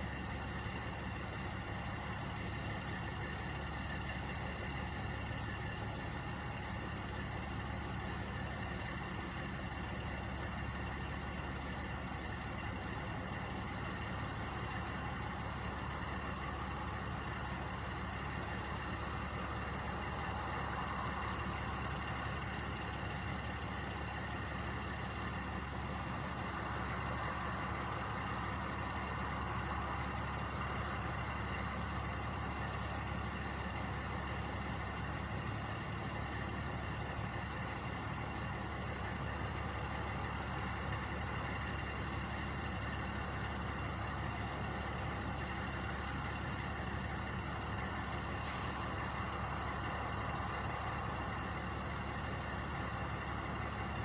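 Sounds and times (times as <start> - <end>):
truck engines idling: 0.0 - 54.0.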